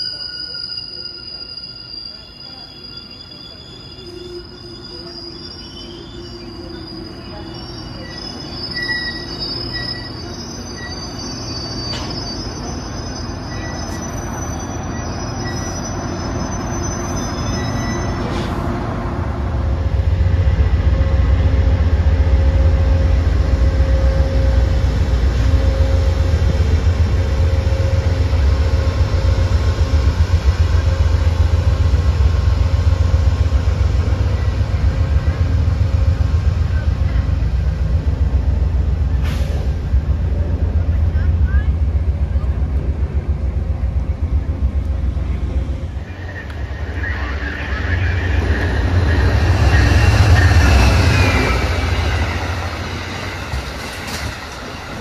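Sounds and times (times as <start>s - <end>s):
train passing with low rumble: 0.0s - 55.0s
train wheels squealing on rails: 0.0s - 55.0s.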